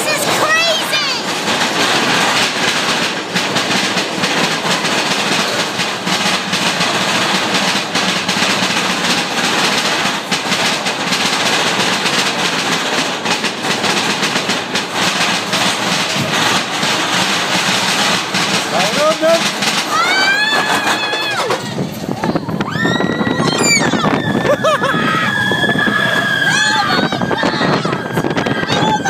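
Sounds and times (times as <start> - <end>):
roller coaster cars rattling: 0.0 - 29.0.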